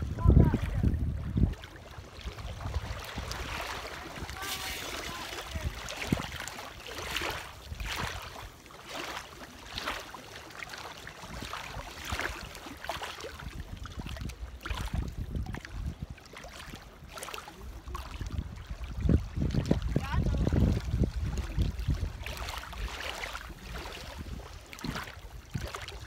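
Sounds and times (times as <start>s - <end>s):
wind buffeting microphone: 0.0s - 8.6s, 13.2s - 26.0s
small waves lapping: 0.0s - 26.0s.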